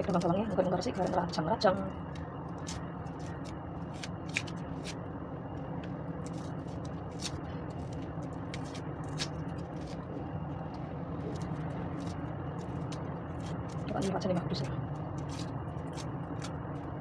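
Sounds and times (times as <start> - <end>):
knife peeling shallot skins: 0.0 - 5.1, 5.8 - 17.0
low background rumble: 0.0 - 17.0.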